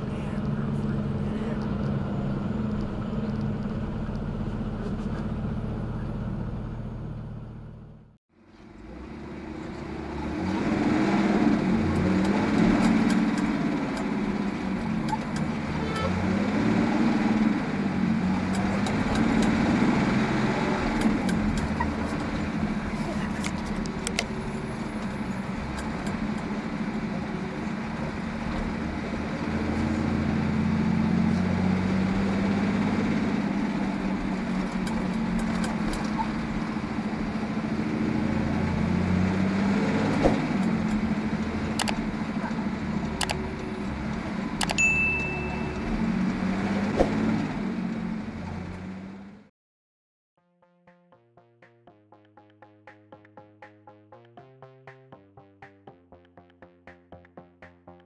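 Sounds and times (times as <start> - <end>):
road noise: 0.0 - 49.5
truck engine running: 0.0 - 49.5.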